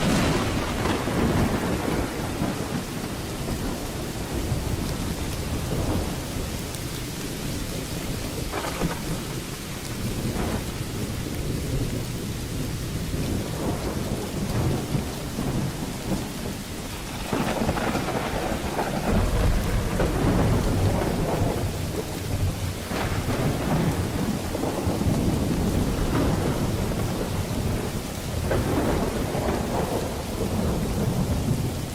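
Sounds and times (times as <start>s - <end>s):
sharp thunder crack: 0.0s - 6.5s, 8.4s - 31.7s
rolling thunder: 0.0s - 31.9s
steady rain: 0.0s - 31.9s.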